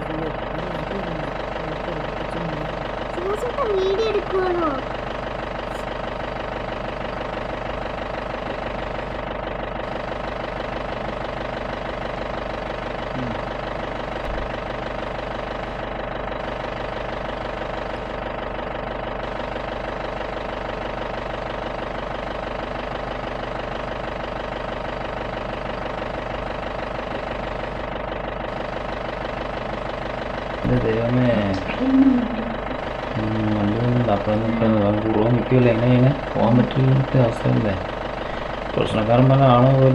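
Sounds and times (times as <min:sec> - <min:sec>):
jeep engine idling: 0:00.0 - 0:39.9.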